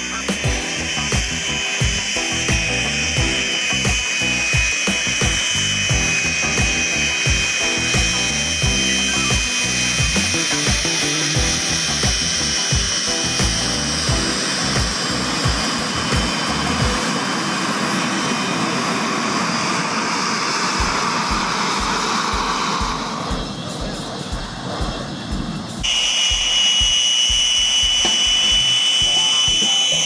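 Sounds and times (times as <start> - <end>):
music with steady beat and bass: 0.0 - 17.3, 20.8 - 30.0
steady high whine: 0.0 - 30.0.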